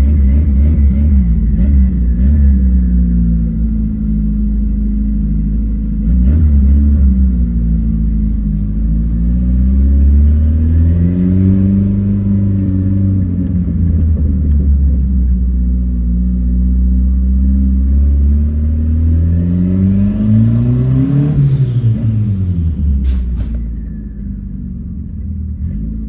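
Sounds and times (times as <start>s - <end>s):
car engine revving: 0.0s - 23.5s.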